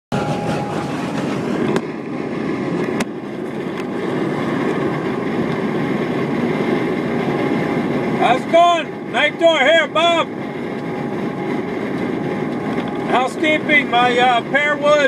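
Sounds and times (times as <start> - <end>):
road and engine noise: 0.1 - 15.0.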